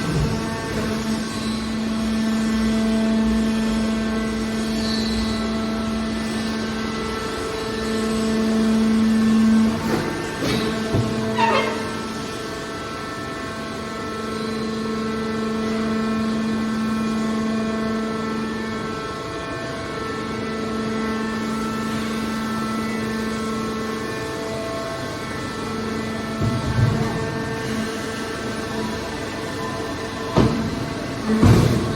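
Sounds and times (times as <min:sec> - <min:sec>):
hydraulic machine hum: 0:00.0 - 0:31.9.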